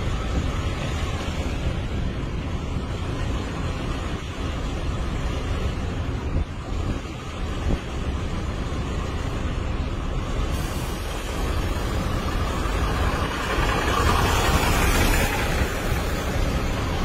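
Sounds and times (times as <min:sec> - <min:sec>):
heavy trucks passing: 0:00.0 - 0:17.0.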